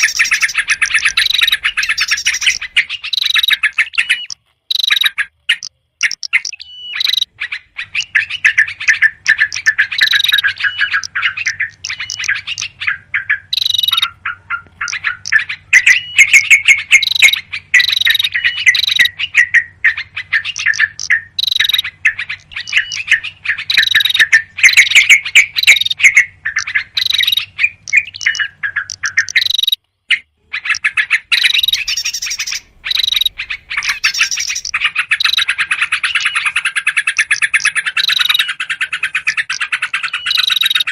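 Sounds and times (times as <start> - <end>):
songbirds chattering and chirping: 0.0 - 40.9.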